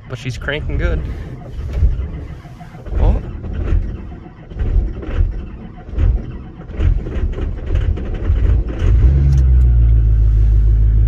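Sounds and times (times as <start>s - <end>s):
diesel engine cranking and starting: 0.0s - 11.0s.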